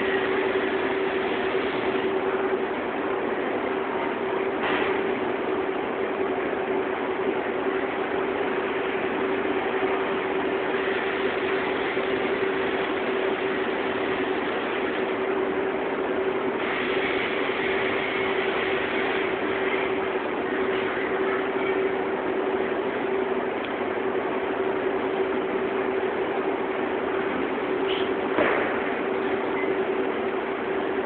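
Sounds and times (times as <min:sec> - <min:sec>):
fabric spreading machine whirring: 0:00.0 - 0:31.0.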